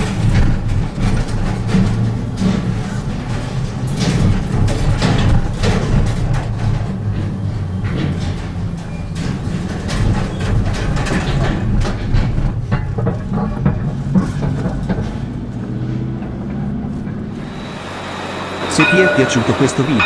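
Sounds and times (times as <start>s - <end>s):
wheels knocking over deck plates: 0.0s - 19.6s
car engine and tyres rumbling: 0.0s - 20.0s.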